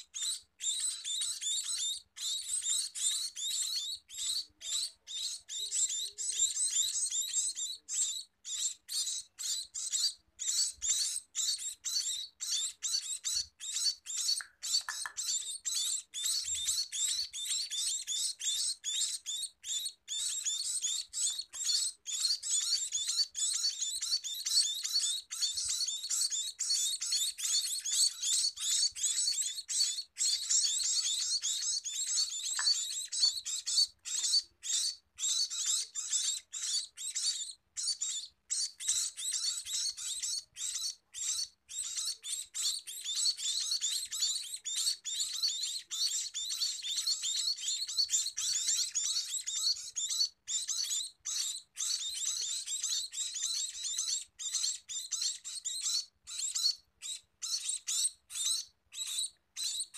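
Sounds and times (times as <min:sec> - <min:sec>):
nestlings begging calls: 0:00.0 - 0:59.9.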